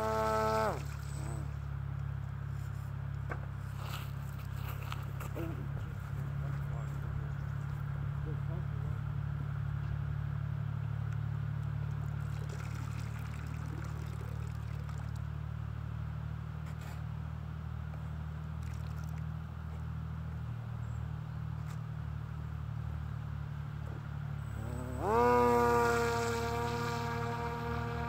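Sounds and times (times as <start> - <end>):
fan boat motor humming: 0.0 - 28.0.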